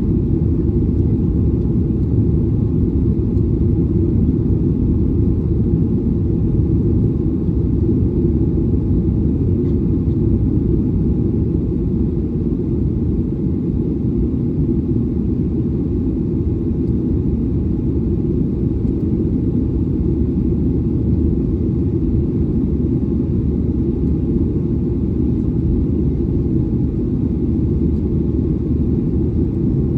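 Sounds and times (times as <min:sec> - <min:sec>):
jet engines rumbling in cabin: 0:00.0 - 0:29.9.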